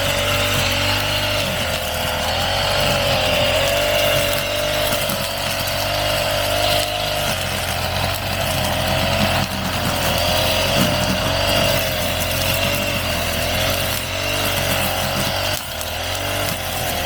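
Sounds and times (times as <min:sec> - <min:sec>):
brush cutter engine: 0:00.0 - 0:17.0.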